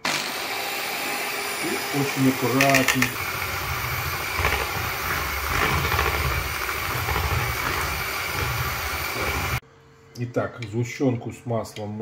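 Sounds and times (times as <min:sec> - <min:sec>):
electric hand mixer whisking: 0:00.0 - 0:09.6.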